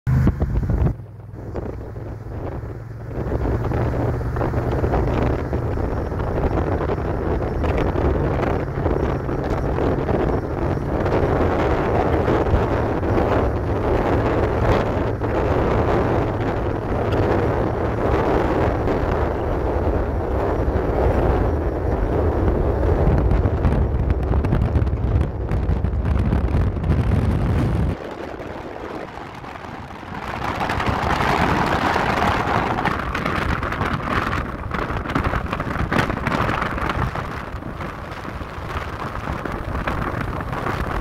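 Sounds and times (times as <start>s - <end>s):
wind rumbling on microphone: 0.1s - 41.0s.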